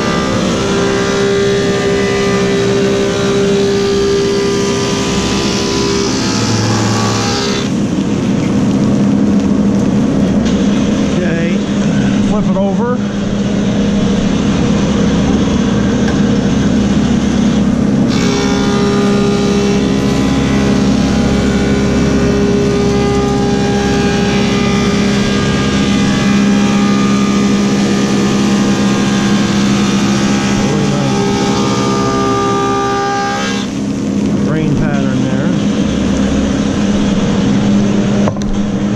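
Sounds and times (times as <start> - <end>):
planer cutting wood: 0.0 - 8.4, 15.3 - 38.9
planer motor hum: 0.0 - 38.9.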